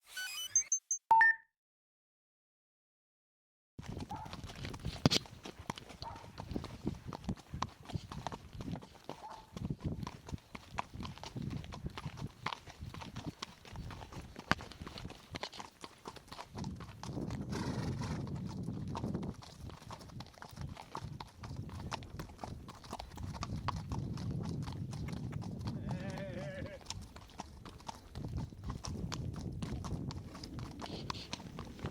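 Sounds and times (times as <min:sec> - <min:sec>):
horse hooves clopping: 0:03.8 - 0:31.9.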